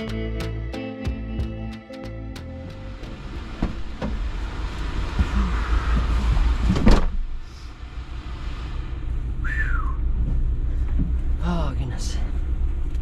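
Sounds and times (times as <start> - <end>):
van idling: 2.2 - 13.0.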